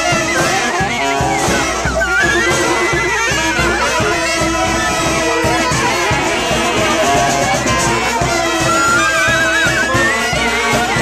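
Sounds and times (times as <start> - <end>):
saxophones and trombones melody: 0.0 - 11.0.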